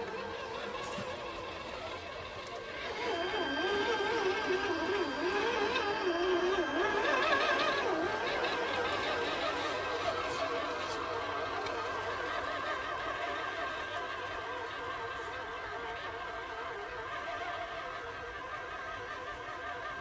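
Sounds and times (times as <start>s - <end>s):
electric motor and gear whine: 0.0s - 20.0s.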